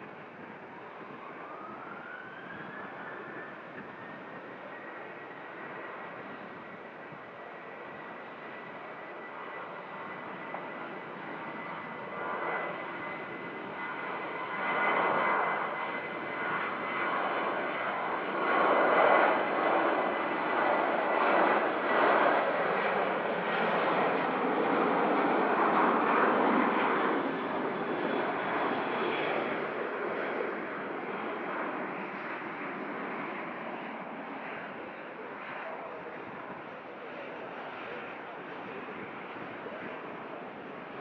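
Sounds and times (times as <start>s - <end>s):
airliner engines roaring: 0.0s - 41.0s.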